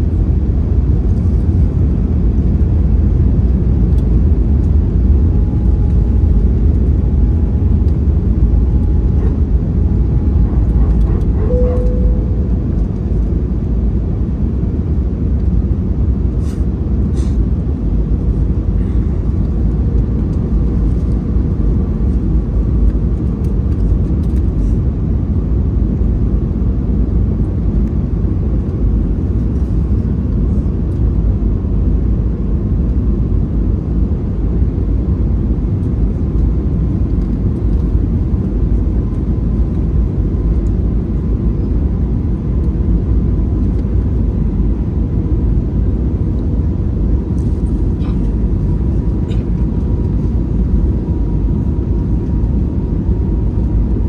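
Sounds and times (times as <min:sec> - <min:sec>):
aircraft cabin roar: 0:00.0 - 0:54.0
faint hum: 0:00.0 - 0:54.0.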